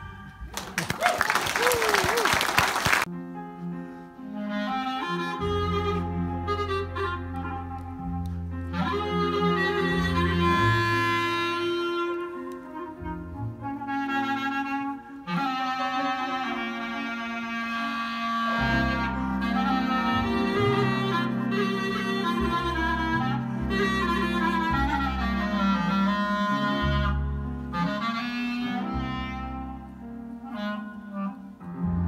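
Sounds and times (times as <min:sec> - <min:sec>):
piano: 0:00.0 - 0:32.0
clarinet melody: 0:01.5 - 0:32.0
double bass: 0:04.4 - 0:32.0.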